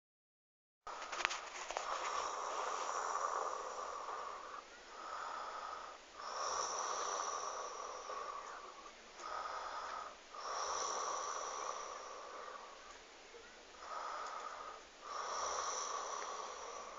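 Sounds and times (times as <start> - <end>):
person snoring: 1.8 - 12.9, 13.7 - 16.9.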